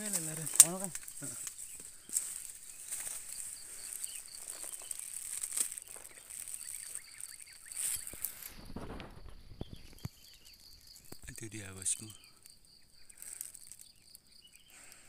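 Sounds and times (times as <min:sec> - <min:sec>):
high insect buzz: 0:00.0 - 0:15.0
twigs and leaves crackling: 0:00.0 - 0:15.0.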